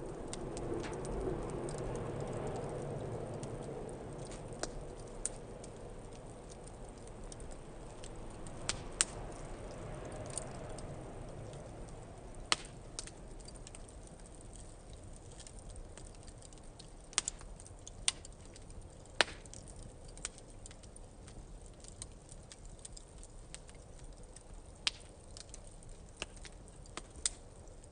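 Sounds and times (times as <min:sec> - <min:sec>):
low rumble of flames: 0:00.0 - 0:27.9
wood fire crackling and popping: 0:00.0 - 0:27.9.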